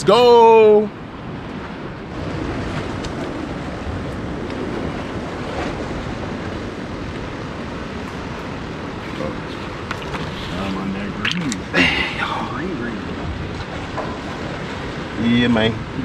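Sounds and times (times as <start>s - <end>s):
surf: 0.0s - 16.0s
wind rushing: 0.9s - 16.0s.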